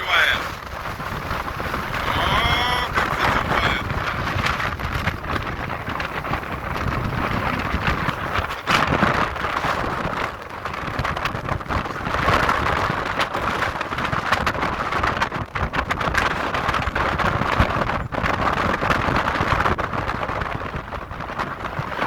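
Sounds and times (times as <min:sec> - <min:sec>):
sea waves breaking: 0:00.0 - 0:22.0
wind buffeting microphone: 0:00.0 - 0:22.0.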